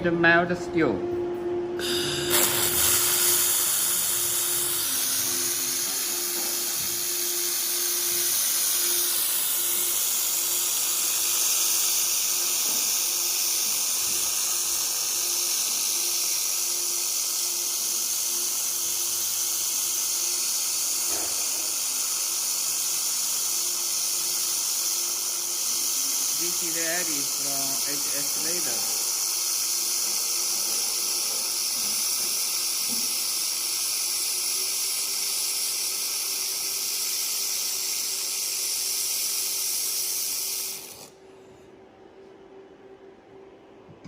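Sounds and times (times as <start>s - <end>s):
laser welder hissing: 1.8s - 41.2s.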